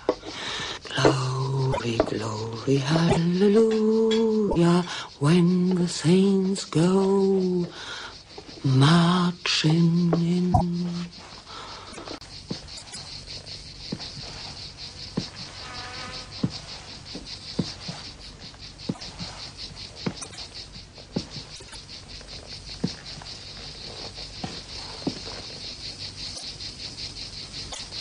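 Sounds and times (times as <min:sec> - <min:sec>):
insect chirping: 0:00.0 - 0:28.0.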